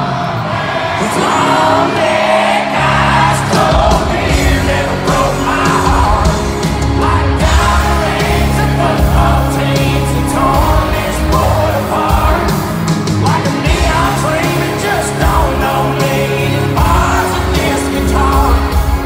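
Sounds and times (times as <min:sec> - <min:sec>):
amplified male vocal: 0:00.0 - 0:19.0
live country band playing: 0:00.0 - 0:19.0.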